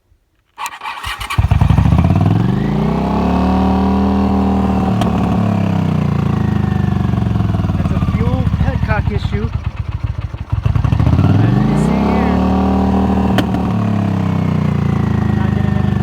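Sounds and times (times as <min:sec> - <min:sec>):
motorcycle engine starting and idling: 0:00.6 - 0:16.0.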